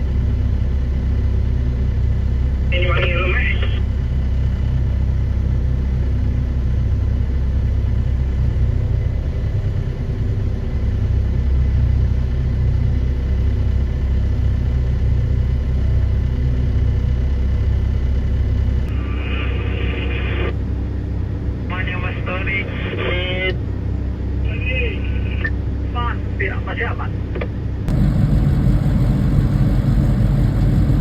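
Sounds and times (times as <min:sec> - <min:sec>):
heavy diesel engine drone: 0:00.0 - 0:31.0.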